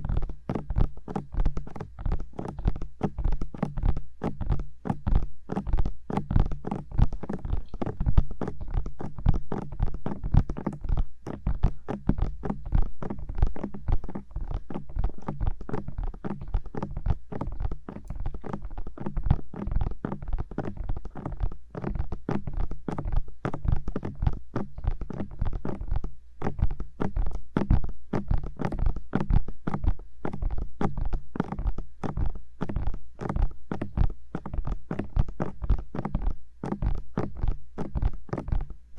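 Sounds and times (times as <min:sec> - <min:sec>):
fingertips tapping on microphone: 0:00.0 - 0:38.9.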